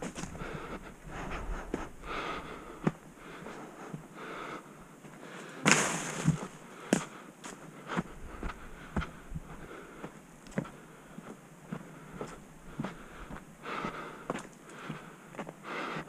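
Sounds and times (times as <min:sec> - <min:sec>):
footsteps on a trail: 0:00.0 - 0:16.0
heavy breathing: 0:00.0 - 0:16.0.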